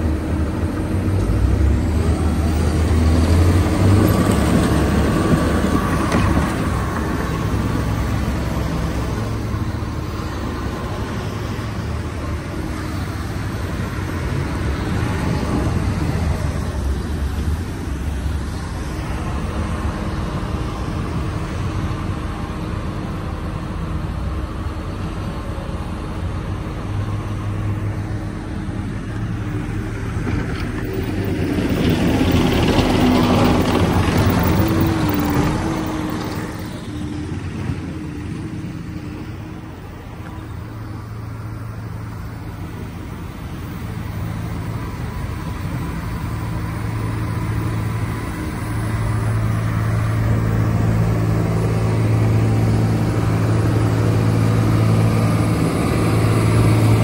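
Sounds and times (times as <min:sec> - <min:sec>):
diesel engine driving past: 0:00.0 - 0:57.0.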